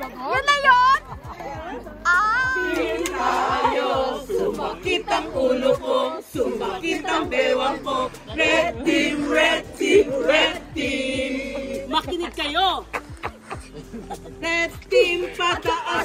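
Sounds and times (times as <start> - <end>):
group of people singing: 2.0 - 12.4, 13.0 - 16.0.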